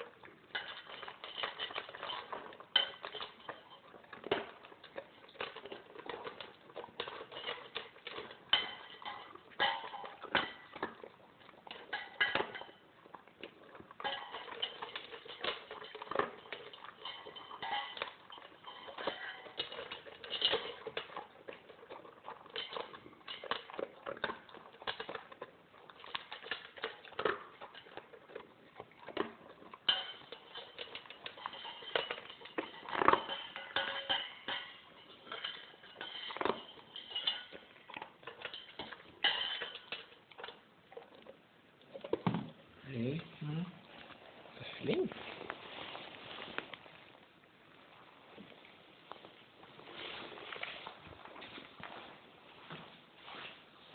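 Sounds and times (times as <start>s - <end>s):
kibble clinking metal bowl: 0.0s - 43.4s
dog crunching kibble: 0.0s - 52.4s.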